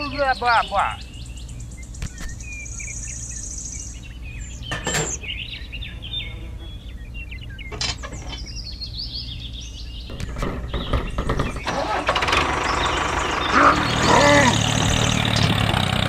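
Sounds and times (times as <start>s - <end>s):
low background rumble: 0.0s - 15.7s
birds chirping: 0.0s - 16.0s.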